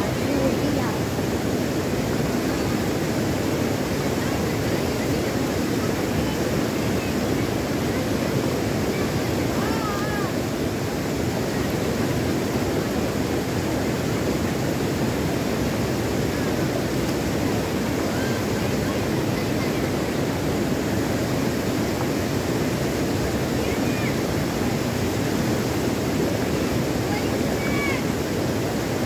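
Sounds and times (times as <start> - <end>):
stream flowing over stones: 0.0 - 29.0.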